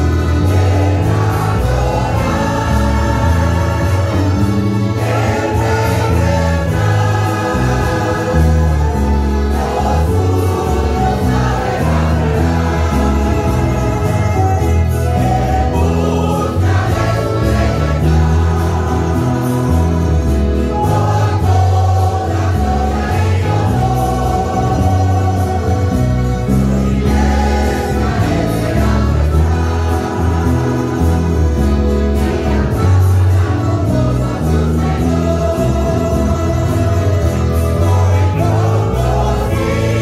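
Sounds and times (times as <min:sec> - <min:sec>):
church choir singing a hymn: 0:00.0 - 0:40.0
mandolins and guitars: 0:00.0 - 0:40.0.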